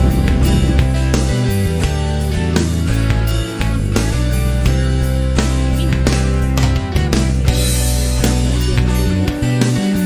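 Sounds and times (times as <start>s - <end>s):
guitar rock music: 0.0s - 10.0s.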